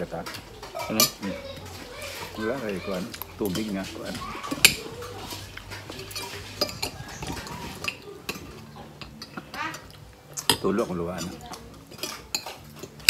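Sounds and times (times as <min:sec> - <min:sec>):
cutlery clinking on glass: 0:00.0 - 0:13.0.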